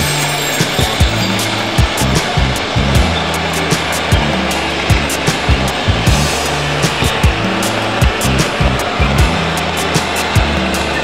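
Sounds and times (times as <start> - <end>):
background music with bass and drums: 0.0 - 11.0.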